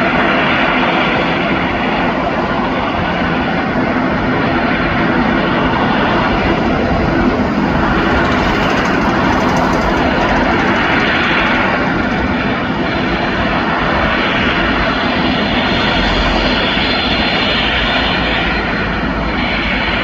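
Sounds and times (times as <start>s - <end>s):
turboprop engines droning: 0.0s - 20.0s.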